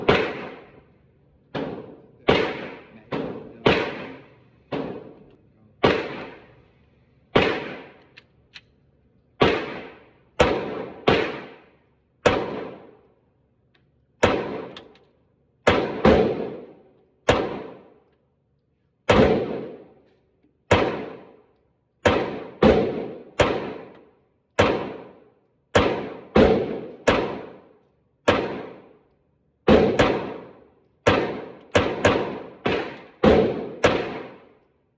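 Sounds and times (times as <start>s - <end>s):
pistol gunshots with echo: 0.0s - 0.9s, 1.5s - 6.6s, 7.3s - 8.2s, 9.4s - 13.2s, 14.2s - 15.0s, 15.6s - 18.1s, 19.1s - 20.0s, 20.6s - 34.8s.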